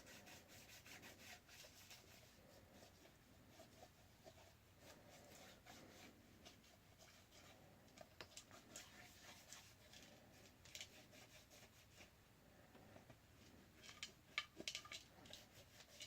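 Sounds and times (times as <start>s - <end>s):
faint rubbing: 0.0s - 14.1s, 15.0s - 16.0s.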